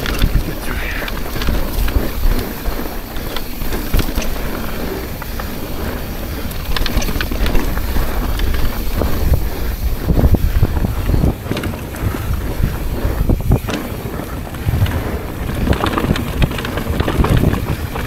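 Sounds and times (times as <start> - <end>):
bike rattles and knocks: 0.0 - 18.0
bike tyre noise: 0.0 - 18.0
wind buffeting microphone: 0.0 - 18.0.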